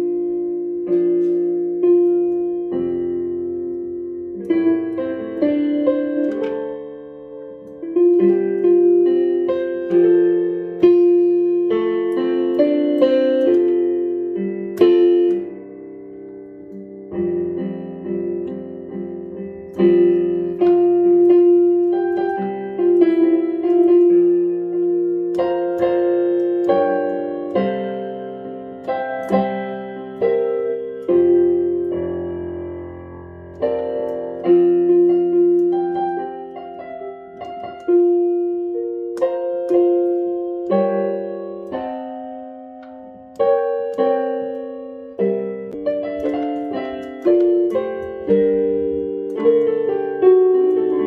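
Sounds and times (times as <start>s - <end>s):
piano playing slow chords: 0.0s - 51.0s.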